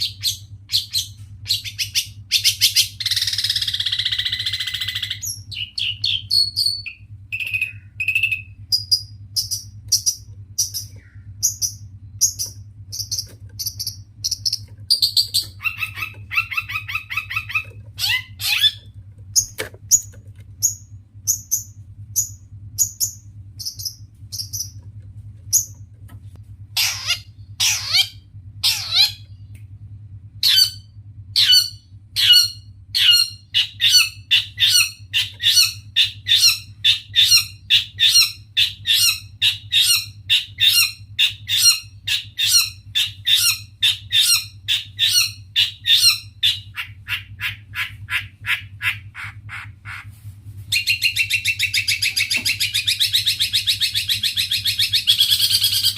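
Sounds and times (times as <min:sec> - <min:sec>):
shrike calling: 0:00.0 - 0:24.8, 0:26.8 - 0:29.5, 0:30.4 - 0:50.1, 0:50.7 - 0:55.9
faint low hum: 0:00.0 - 0:55.9.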